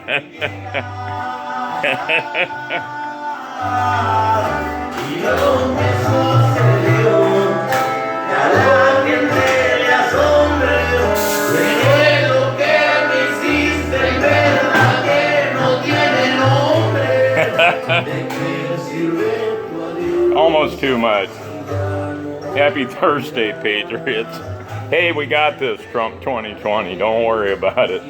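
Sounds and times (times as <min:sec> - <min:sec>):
bass line: 0:00.0 - 0:01.2, 0:03.6 - 0:07.7, 0:08.4 - 0:28.0
song with lead vocal: 0:00.0 - 0:28.0.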